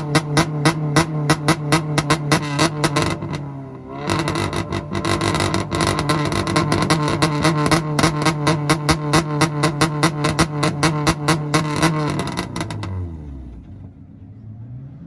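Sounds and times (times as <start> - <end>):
engine on launch limiter popping: 0.0 - 13.9.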